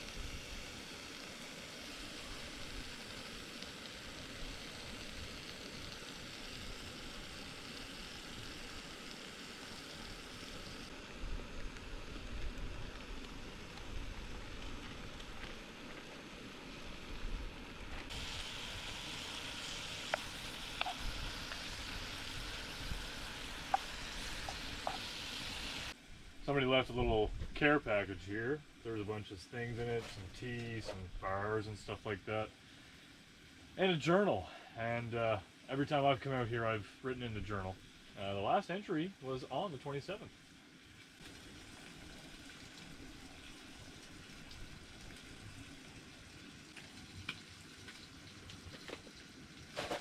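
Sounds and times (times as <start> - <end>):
food sizzling in a pan: 0.0 - 26.4, 28.2 - 50.0.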